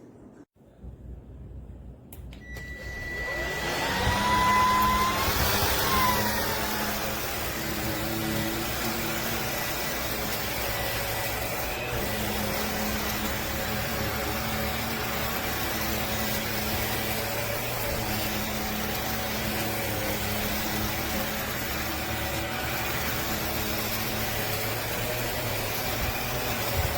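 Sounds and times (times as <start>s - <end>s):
vacuum cleaner motor running: 2.6s - 26.9s.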